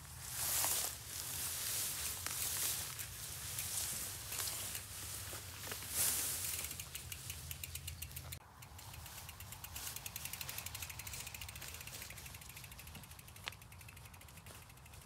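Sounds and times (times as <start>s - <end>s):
footsteps in long grass: 0.0s - 7.4s, 8.7s - 15.0s
bicycle freewheel ticking: 0.5s - 15.0s.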